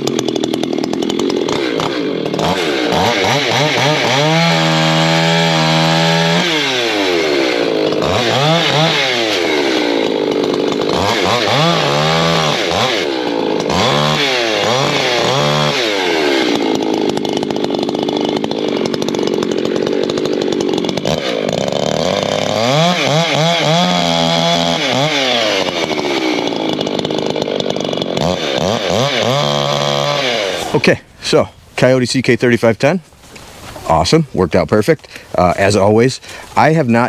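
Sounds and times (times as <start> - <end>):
chainsaw revving: 0.0 - 31.3.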